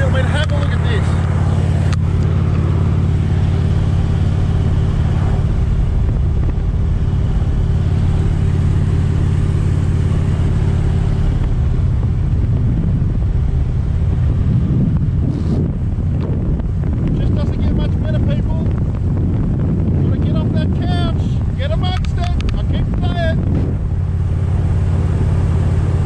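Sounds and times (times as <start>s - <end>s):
motorcycle engine running: 0.0s - 26.0s
rushing wind and road noise: 0.0s - 26.0s.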